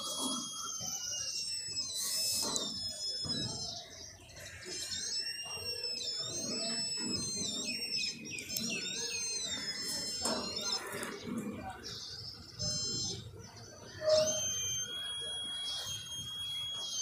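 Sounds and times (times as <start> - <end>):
wavering high signal tone: 0.0 - 17.0.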